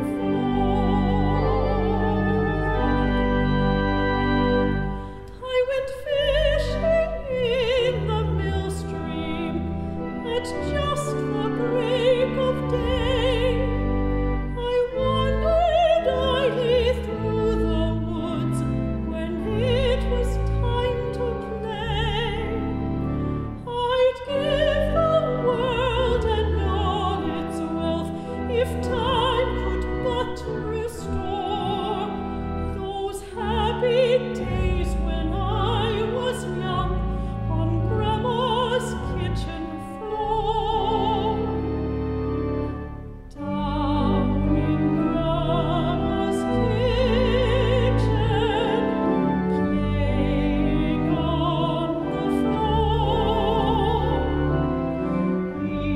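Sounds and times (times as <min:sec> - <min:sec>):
woman singing with vibrato: 0:00.0 - 0:03.3, 0:05.2 - 0:13.9, 0:14.5 - 0:22.6, 0:23.6 - 0:32.2, 0:32.8 - 0:41.6, 0:43.3 - 0:54.6
organ sustained low notes: 0:00.0 - 0:55.9.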